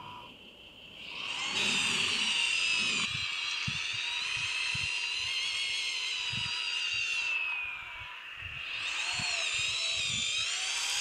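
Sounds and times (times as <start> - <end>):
electric motors whining: 1.0 - 11.0.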